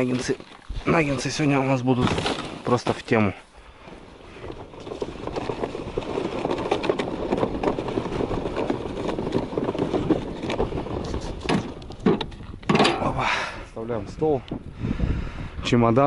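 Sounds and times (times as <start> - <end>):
plastic sled scraping over snow: 0.0 - 14.4.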